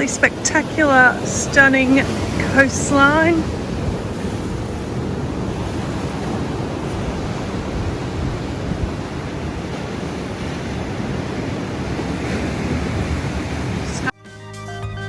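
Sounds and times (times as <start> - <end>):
ocean surf washing onto beach: 0.0 - 14.1
wind buffeting microphone: 0.0 - 14.1.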